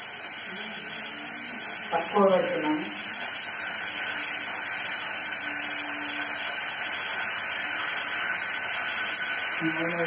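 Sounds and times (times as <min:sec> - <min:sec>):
gas burner hissing: 0:00.0 - 0:10.0.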